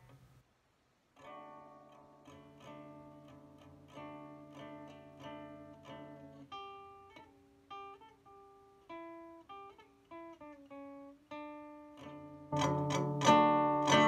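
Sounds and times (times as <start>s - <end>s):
fingerpicked acoustic guitar: 1.2s - 14.0s.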